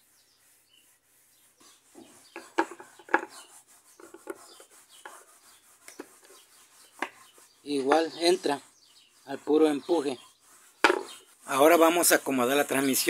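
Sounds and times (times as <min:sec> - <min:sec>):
rubbing and scraping of plastic: 0:00.0 - 0:13.0.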